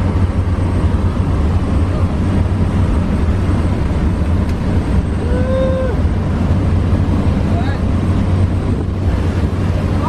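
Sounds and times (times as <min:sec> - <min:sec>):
airplane engine drone: 0:00.0 - 0:10.0.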